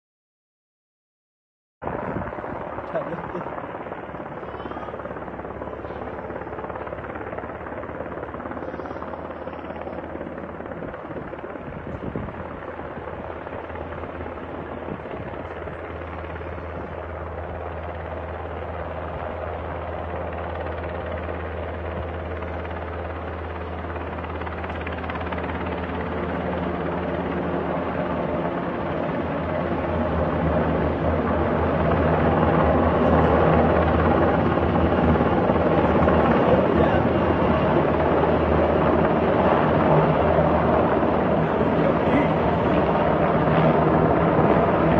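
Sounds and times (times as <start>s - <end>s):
helicopter rotor and engine drone: 1.8s - 44.9s.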